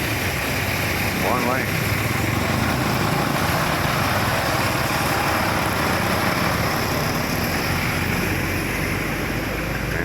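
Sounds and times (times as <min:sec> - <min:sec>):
vehicle engines in traffic: 0:00.0 - 0:10.0.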